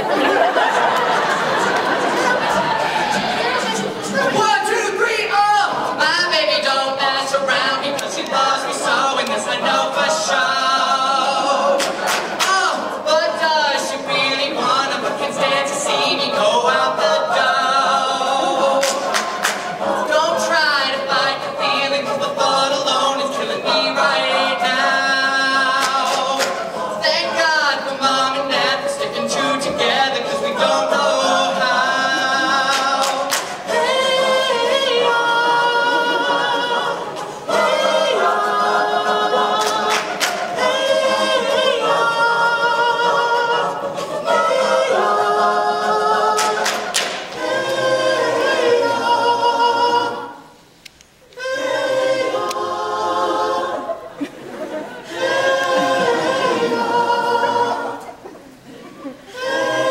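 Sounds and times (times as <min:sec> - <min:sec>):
lead voice singing: 0:00.0 - 0:50.5, 0:51.3 - 0:59.9
backing vocal chords: 0:00.0 - 0:50.6, 0:51.2 - 0:59.9
vocal percussive beats: 0:00.0 - 0:59.9.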